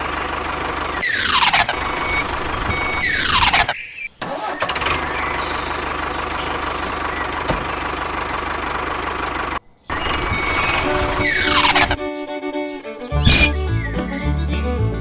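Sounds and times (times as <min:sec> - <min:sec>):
tractor engine idling: 0:00.0 - 0:12.4.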